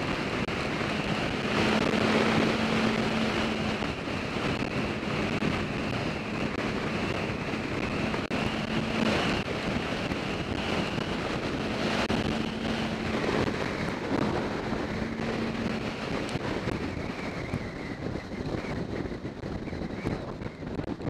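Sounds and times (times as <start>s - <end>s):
faint motorcycle engine: 0.0s - 21.0s
wind rushing over microphone: 0.0s - 21.0s.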